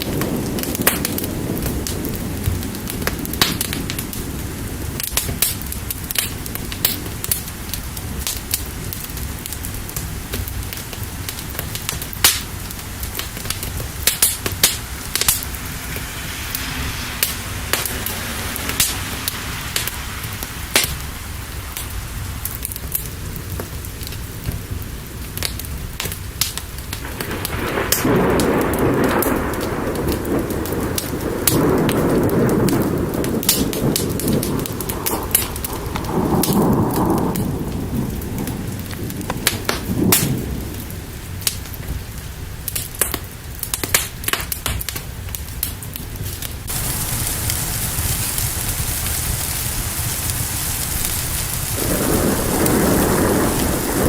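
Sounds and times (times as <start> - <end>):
low thunder: 0.0 - 43.1, 46.2 - 54.0
fire crackling and popping: 0.0 - 54.0
steady rain: 0.0 - 54.0.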